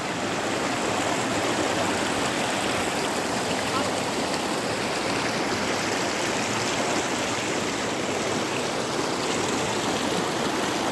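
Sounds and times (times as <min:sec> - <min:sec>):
running water: 0:00.0 - 0:10.9.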